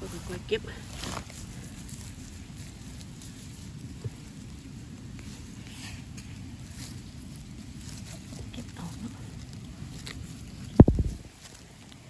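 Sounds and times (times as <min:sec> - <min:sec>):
leafy undergrowth rustling: 0:00.0 - 0:12.0
low microphone rumble: 0:00.0 - 0:12.0.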